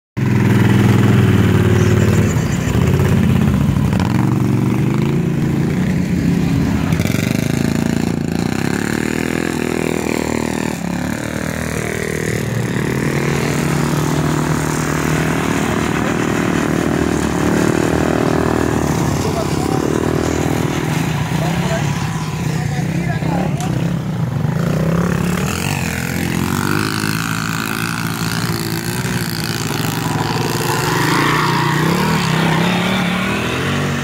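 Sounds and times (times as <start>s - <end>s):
atv engines revving: 0.2s - 34.0s.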